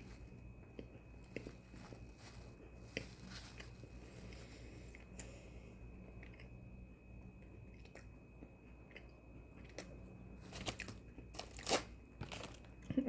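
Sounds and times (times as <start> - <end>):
cookie chewing and crunching: 0.0 - 13.0.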